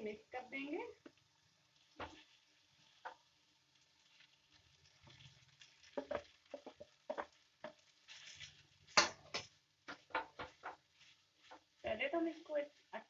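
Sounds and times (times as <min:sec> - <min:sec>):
wooden spatula scraping a pan: 0:01.8 - 0:13.0.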